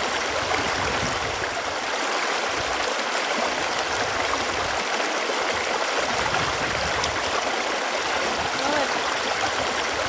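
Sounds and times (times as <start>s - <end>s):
running water gurgling: 0.0s - 10.0s.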